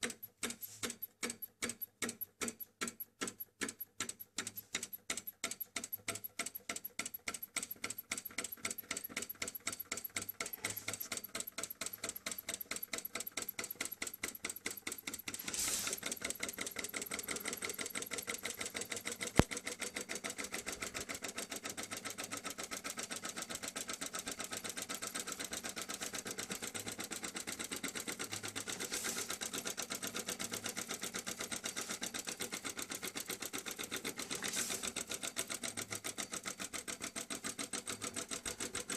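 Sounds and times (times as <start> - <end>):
solenoid engine clicking: 0.0 - 38.9.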